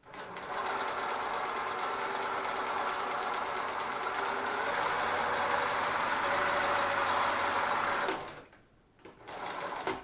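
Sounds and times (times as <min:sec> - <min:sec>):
industrial sewing machine running: 0:00.0 - 0:08.5, 0:09.2 - 0:10.0.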